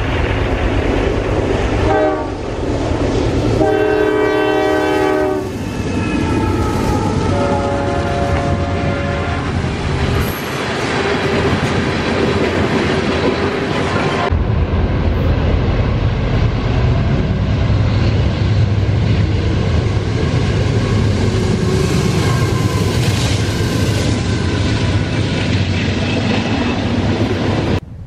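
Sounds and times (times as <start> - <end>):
deep locomotive rumble: 0.0 - 28.0
train wheels on rails: 0.0 - 28.0.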